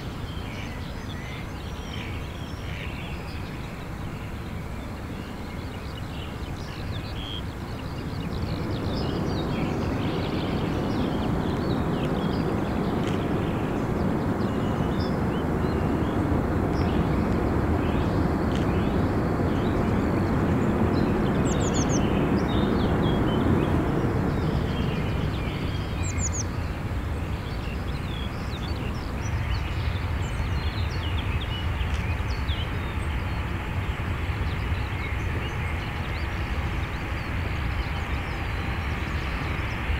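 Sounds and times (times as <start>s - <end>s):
jet engines roaring: 7.5s - 39.9s.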